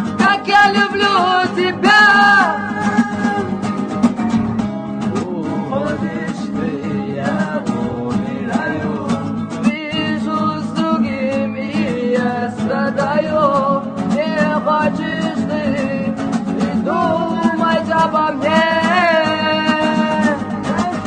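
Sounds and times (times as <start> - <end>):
strummed guitar: 0.0 - 21.0.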